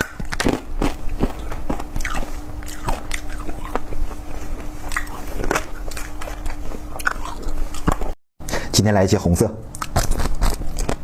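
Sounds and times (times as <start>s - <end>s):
biting and chewing: 0.0s - 8.2s, 9.7s - 11.0s
faint steady hum: 0.0s - 11.0s.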